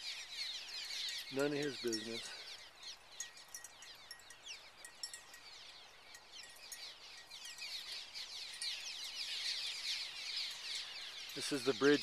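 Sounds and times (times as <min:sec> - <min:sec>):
swallows chirping: 0:00.0 - 0:12.0.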